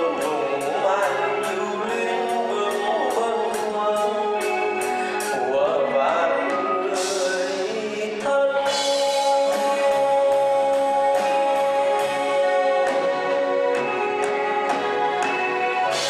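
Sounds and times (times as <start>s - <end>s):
drum kit beat: 0.0s - 16.0s
live band playing: 0.0s - 16.0s.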